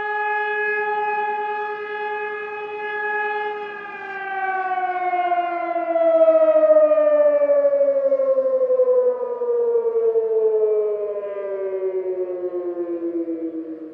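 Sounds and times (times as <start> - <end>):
emergency siren gliding down: 0.0 - 13.9.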